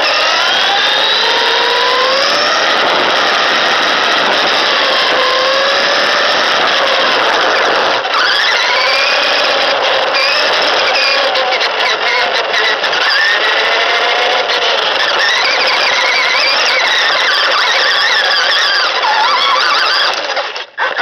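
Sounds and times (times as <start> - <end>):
electric motor whining: 0.0 - 21.0
tyres rushing on rough asphalt: 0.0 - 21.0.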